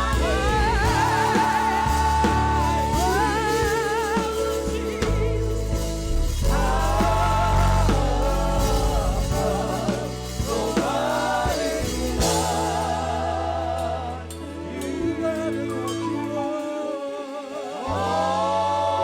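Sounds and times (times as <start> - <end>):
band with bass and drums: 0.0 - 19.0
singers with vibrato: 0.0 - 19.0.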